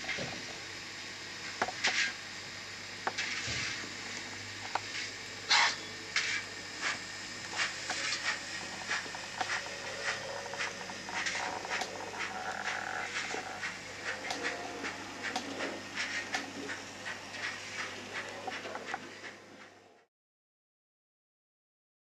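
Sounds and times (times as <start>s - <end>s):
steam chuffs through small speaker: 0.0s - 20.1s.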